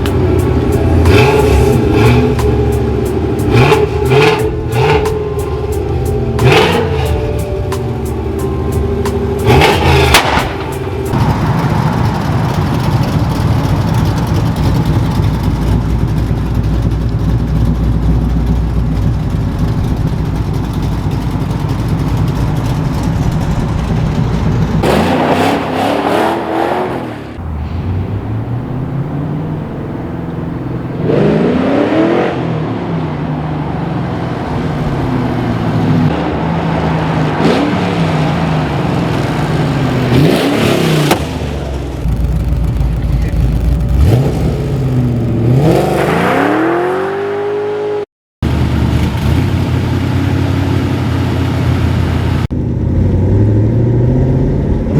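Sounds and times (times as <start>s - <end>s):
car engine revving and idling: 0.0s - 54.9s.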